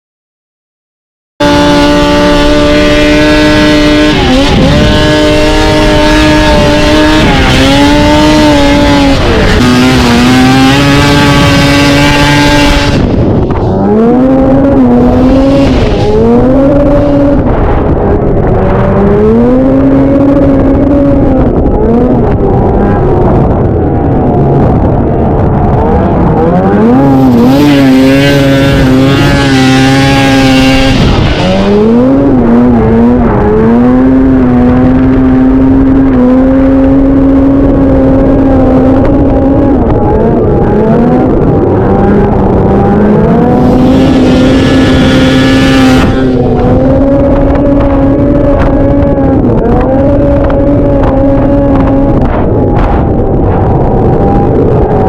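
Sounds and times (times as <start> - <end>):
snowmobile engine revving: 1.4 - 55.0.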